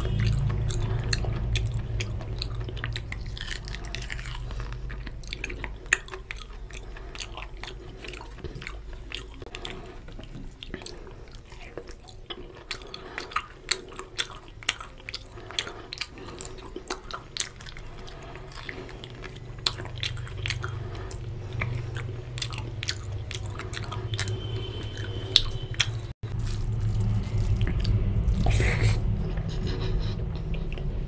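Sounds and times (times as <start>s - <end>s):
low rumble: 0.0s - 10.4s, 15.3s - 31.0s
close chewing with lip smacks: 0.0s - 31.0s.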